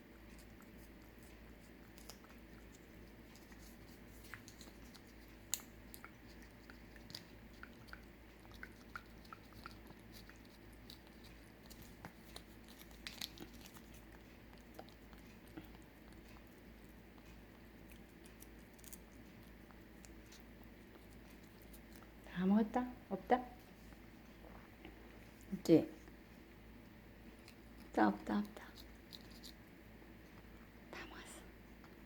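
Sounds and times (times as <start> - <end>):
cat licking and eating: 0.0 - 32.0.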